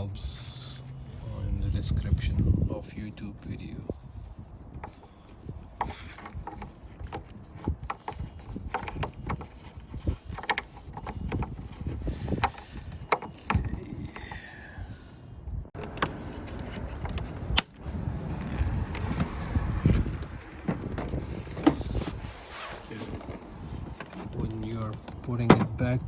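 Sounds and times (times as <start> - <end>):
wind on microphone: 0.0 - 26.0.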